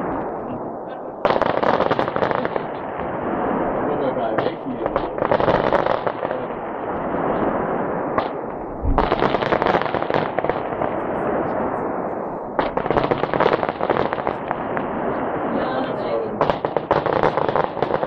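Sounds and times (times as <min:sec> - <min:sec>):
fireworks crackling bangs: 0:00.0 - 0:18.0.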